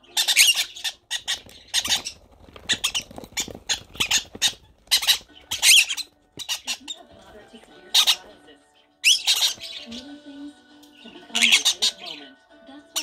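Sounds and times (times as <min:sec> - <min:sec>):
parrot chicks food-begging calls: 0:00.0 - 0:13.0.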